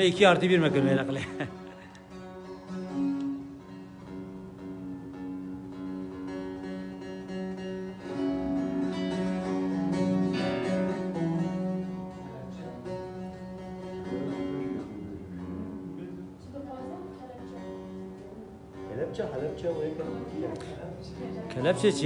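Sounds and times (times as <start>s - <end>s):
acoustic guitar strumming: 0.0s - 22.0s
plucked lute: 0.0s - 22.0s.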